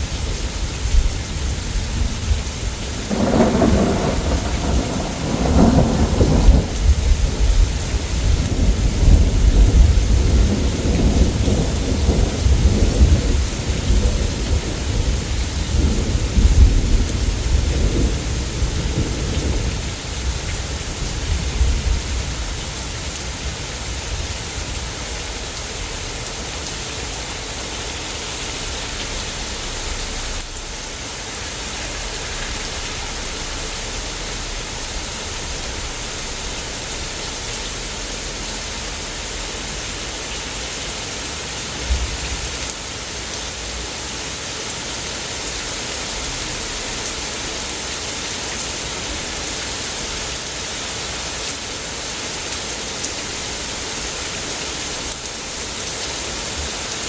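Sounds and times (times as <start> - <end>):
heavy rain splashing: 0.0 - 57.0.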